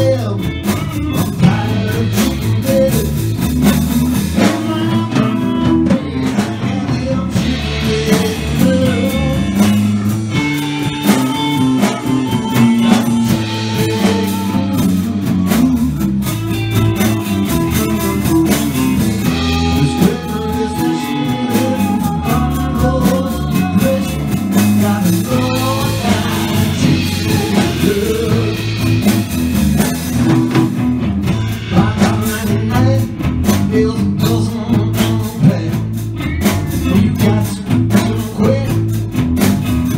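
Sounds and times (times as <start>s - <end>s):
person singing: 0.0s - 39.0s
drums: 0.0s - 39.9s
electric guitars: 0.0s - 39.9s.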